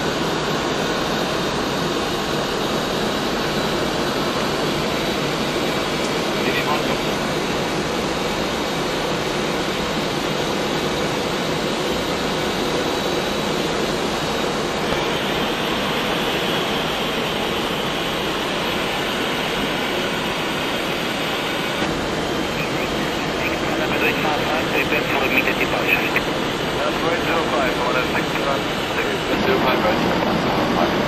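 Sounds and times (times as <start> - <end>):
cockpit airflow and air-conditioning rush: 0.3 - 31.0.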